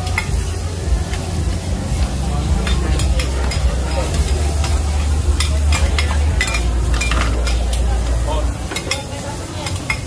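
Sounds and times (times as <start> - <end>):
pancakes sizzling in oil: 0.0 - 10.0.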